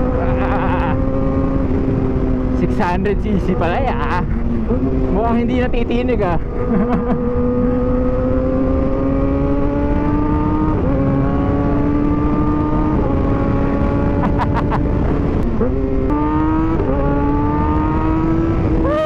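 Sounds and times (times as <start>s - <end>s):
motorcycle engine accelerating: 0.0s - 19.0s
wind rush: 0.0s - 19.0s.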